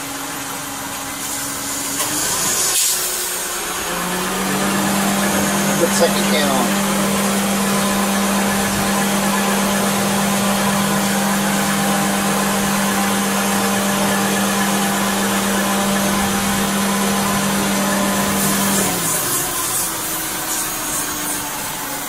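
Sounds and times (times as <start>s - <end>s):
car engine idling hum: 0.0s - 22.0s.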